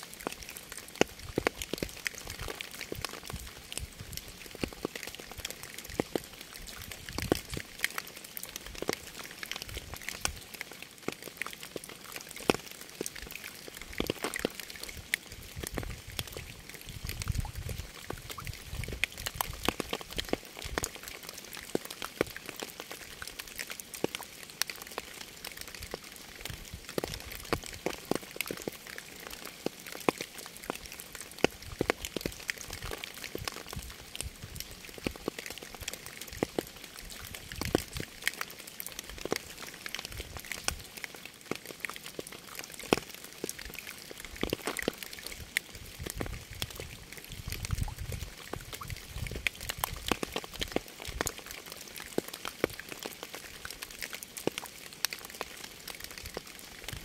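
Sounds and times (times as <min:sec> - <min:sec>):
rain hiss: 0:00.0 - 0:57.0
raindrops ticking on surface: 0:00.0 - 0:57.0.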